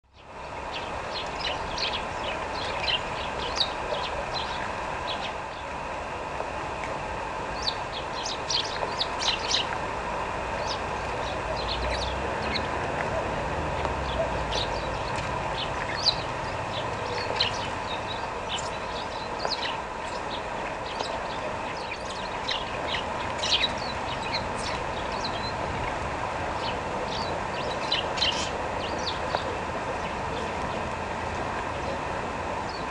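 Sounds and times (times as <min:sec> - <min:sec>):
small songbirds chirping: 0:00.0 - 0:05.8, 0:07.5 - 0:09.8, 0:10.4 - 0:30.9, 0:31.6 - 0:32.9
steady background hum: 0:00.1 - 0:32.9.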